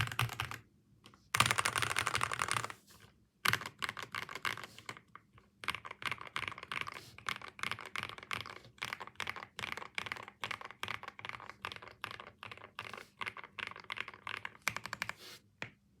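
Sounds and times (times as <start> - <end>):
mechanical keyboard typing: 0.0 - 0.6, 1.4 - 2.8, 3.4 - 15.2.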